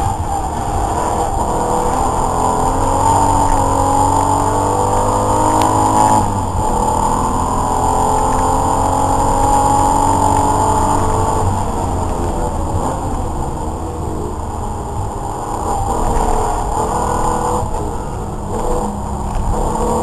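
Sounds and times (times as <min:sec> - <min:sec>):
racing car engine accelerating: 0:00.0 - 0:20.0.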